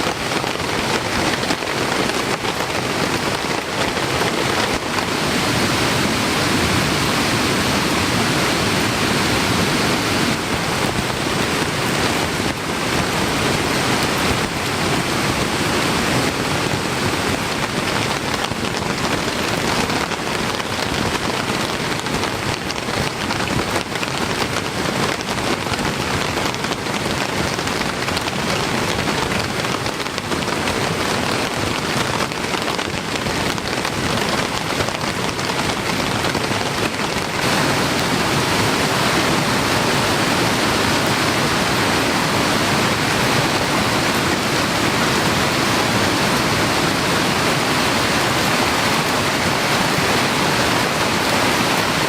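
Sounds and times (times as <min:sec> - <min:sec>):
heavy rain pattering: 0:00.0 - 0:52.0.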